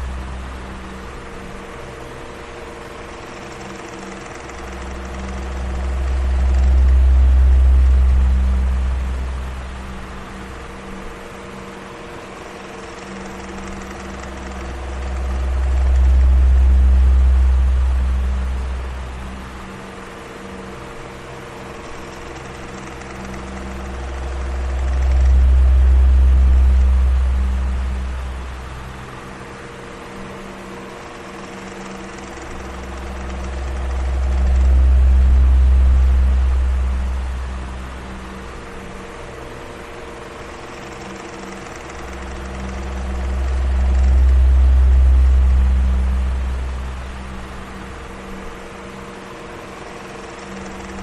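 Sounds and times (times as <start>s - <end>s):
electric fan running: 0.0s - 51.0s
rumble of moving air: 0.0s - 51.0s.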